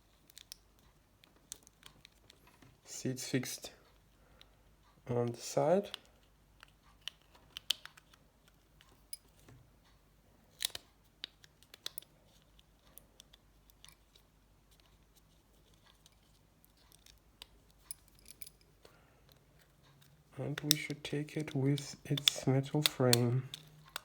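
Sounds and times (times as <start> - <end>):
phone parts clicking and scraping: 0.1 - 2.8, 5.8 - 9.6, 10.5 - 24.0.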